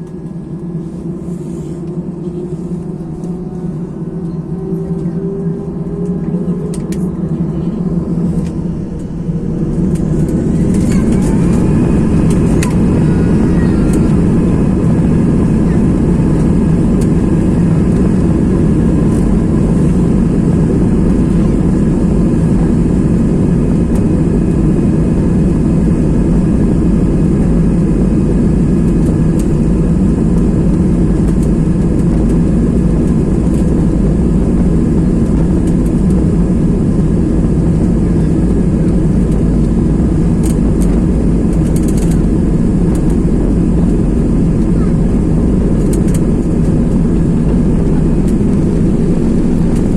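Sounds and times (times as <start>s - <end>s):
airliner engines rumbling in cabin: 0.0s - 49.9s
faint engine whine: 0.0s - 49.9s.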